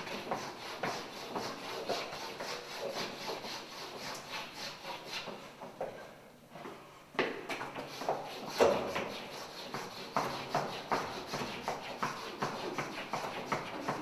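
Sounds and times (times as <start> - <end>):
chalk scraping on blackboard: 0.1 - 5.4, 7.8 - 14.0.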